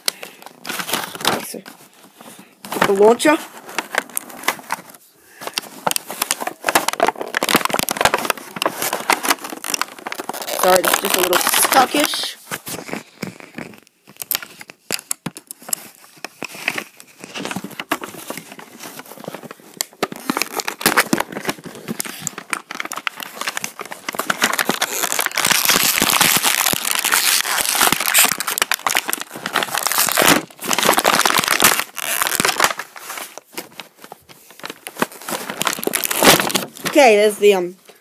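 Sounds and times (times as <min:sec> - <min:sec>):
plastic packaging crumpling and tearing: 0:00.0 - 0:38.0.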